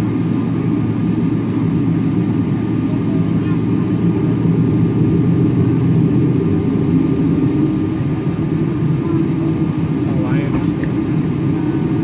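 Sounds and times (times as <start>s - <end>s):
jet engines humming in cabin: 0.0s - 12.0s.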